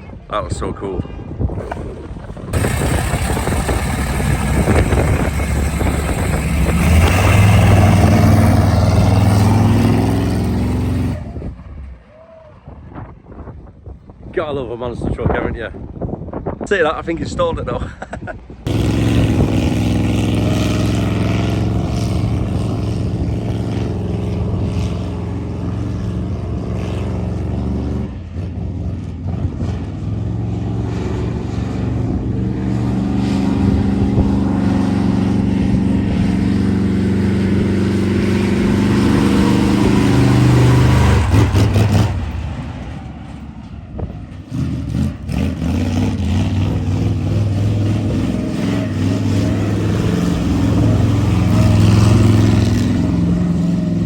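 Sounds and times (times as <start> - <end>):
monster truck engine revving: 1.4 - 12.0, 18.6 - 54.0.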